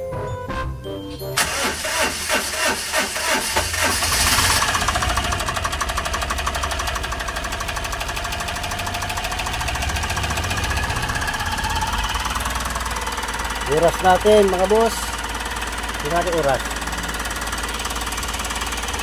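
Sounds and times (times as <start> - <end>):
engine idling: 1.4 - 19.0.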